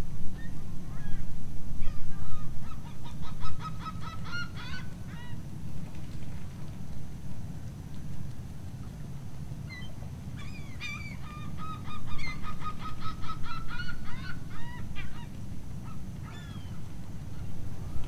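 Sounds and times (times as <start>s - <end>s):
low steady rumble: 0.0s - 18.0s
waterbirds calling: 0.4s - 5.5s, 7.8s - 18.0s.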